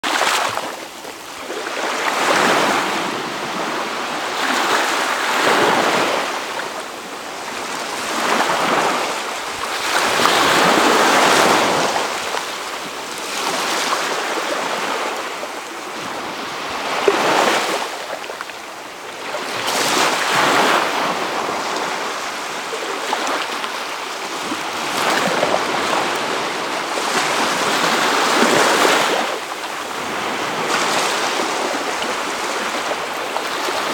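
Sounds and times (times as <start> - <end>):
waves washing up the shore: 0.0 - 33.9.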